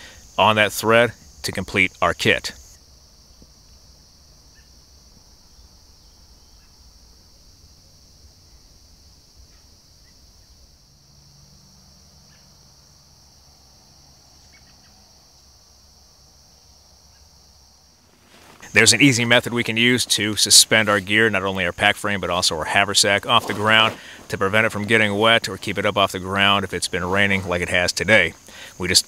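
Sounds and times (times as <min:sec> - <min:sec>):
crickets shrilling: 0:00.0 - 0:29.0.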